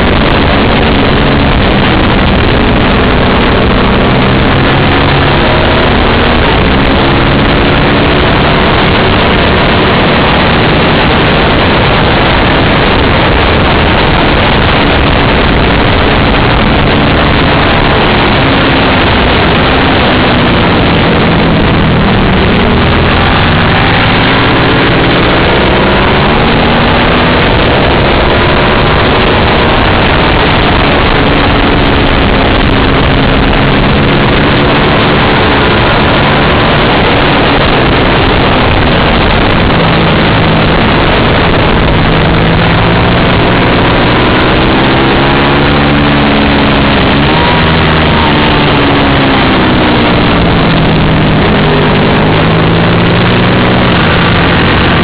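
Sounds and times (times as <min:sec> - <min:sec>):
racing motorcycle engine revving: 0:00.0 - 0:55.0
wind rush on microphone: 0:00.0 - 0:55.0.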